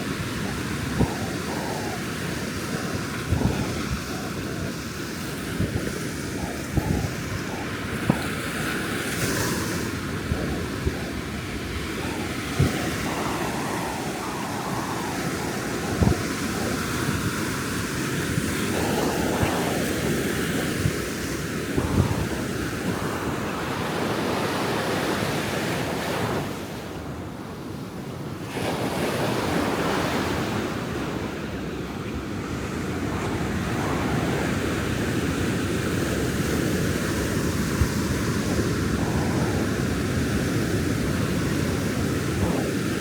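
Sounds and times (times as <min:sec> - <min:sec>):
ocean surf breaking: 0:00.0 - 0:27.3, 0:28.4 - 0:43.0
wind buffeting microphone: 0:00.0 - 0:43.0.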